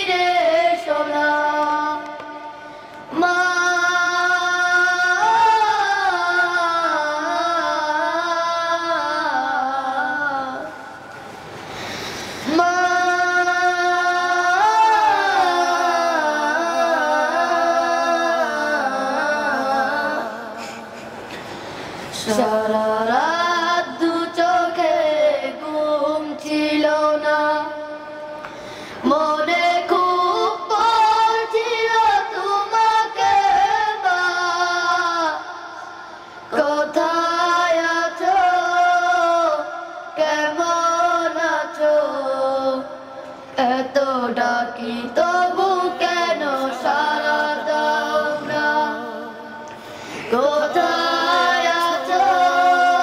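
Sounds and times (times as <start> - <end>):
boy singing unaccompanied: 0.0 - 2.5, 3.1 - 10.8, 12.4 - 20.6, 22.2 - 28.2, 29.0 - 35.5, 36.5 - 43.0, 43.6 - 49.6, 50.3 - 53.0.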